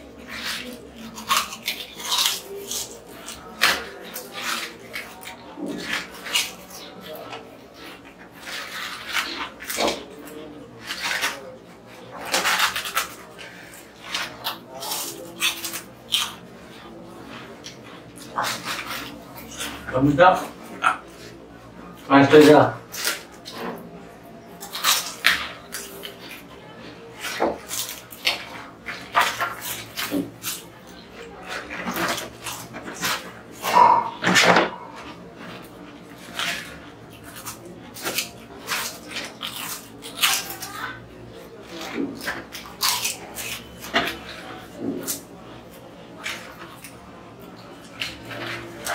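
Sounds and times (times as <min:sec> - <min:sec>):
potato chips crunching: 0:00.0 - 0:21.3, 0:22.0 - 0:48.9.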